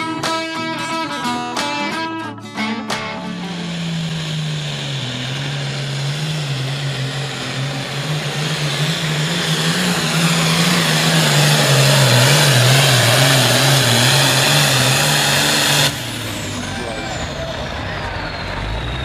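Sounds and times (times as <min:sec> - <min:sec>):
diesel engine at full throttle: 0:00.0 - 0:19.0.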